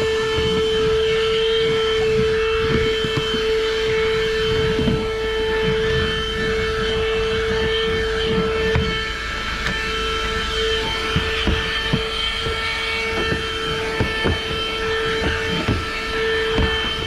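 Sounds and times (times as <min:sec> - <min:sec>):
car vacuum cleaner motor whine: 0:00.0 - 0:17.0.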